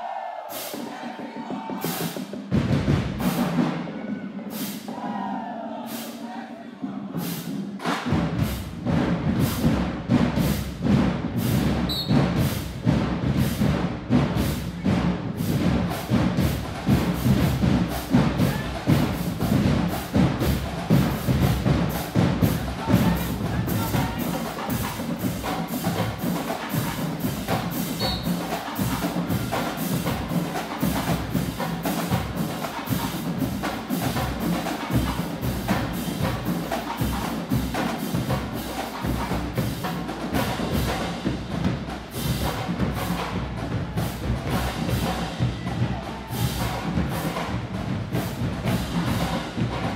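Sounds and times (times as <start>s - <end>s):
marching band playing: 0.0s - 49.9s
fast drum hits: 0.6s - 5.1s, 7.1s - 49.9s.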